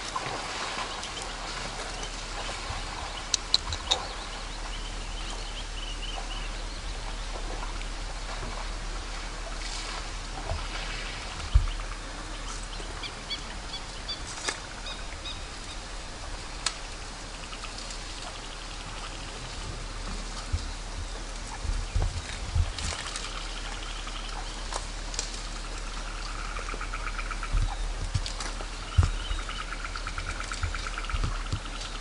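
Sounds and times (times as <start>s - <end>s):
birds calling: 0.0s - 32.0s
low background hum: 0.0s - 32.0s.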